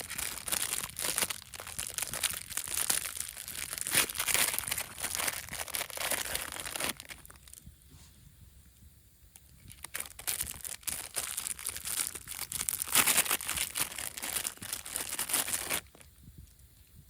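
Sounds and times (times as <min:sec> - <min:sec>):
crinkly material rustling: 0:00.0 - 0:08.2, 0:09.4 - 0:16.7.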